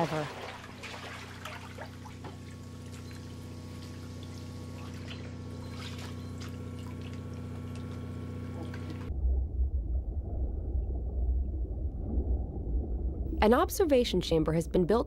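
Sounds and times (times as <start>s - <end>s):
water sloshing and dripping: 0.0s - 13.4s
steady low hum: 0.0s - 15.0s.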